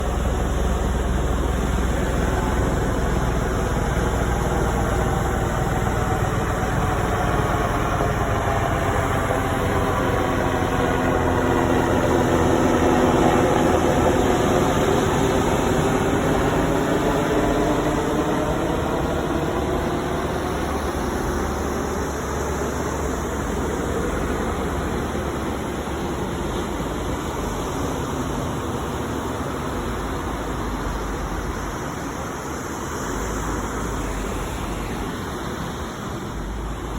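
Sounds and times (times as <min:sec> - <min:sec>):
helicopter flying overhead: 0:00.0 - 0:36.9.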